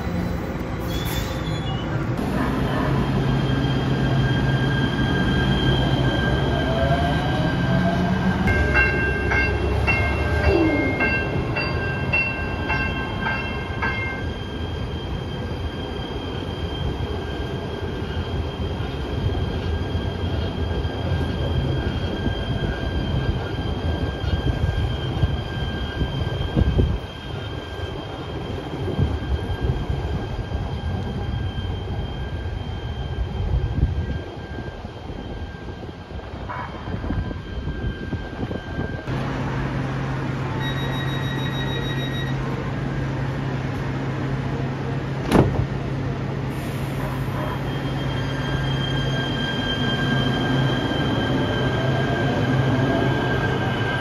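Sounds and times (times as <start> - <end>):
train wheel squeal: 0.0 - 39.1, 40.0 - 54.0
low train rumble: 0.0 - 54.0.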